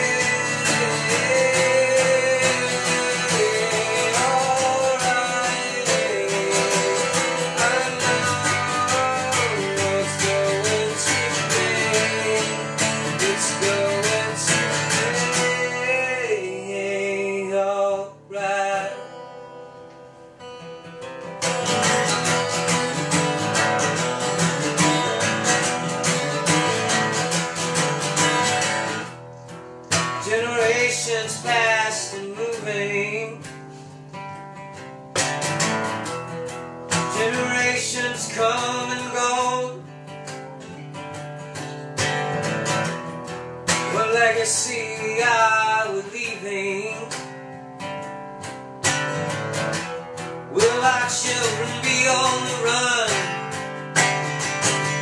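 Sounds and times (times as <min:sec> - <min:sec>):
acoustic guitar strummed and picked: 0:00.0 - 0:55.0.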